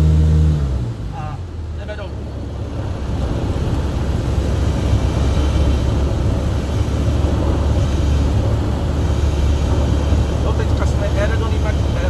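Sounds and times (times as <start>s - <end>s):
airplane engine and rushing air: 0.0s - 12.0s.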